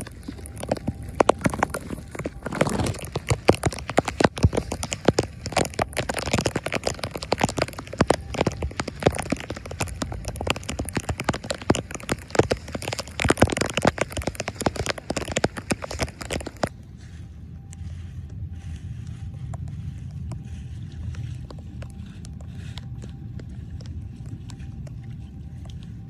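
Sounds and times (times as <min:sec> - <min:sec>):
rain pattering: 0:00.0 - 0:18.0, 0:18.6 - 0:26.0.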